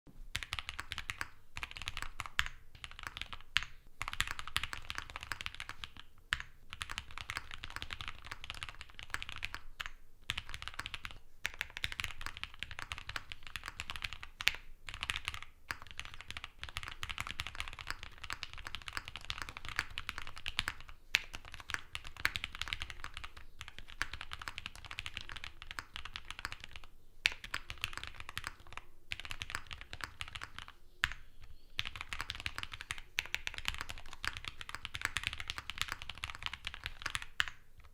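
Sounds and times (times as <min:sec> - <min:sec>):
mechanical keyboard typing: 0:00.4 - 0:31.2, 0:31.8 - 0:37.9.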